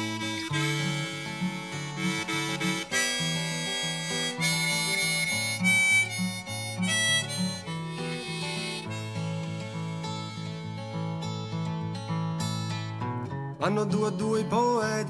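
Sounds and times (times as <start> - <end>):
harmonica melody: 0.0 - 12.8
acoustic guitar: 0.0 - 15.0.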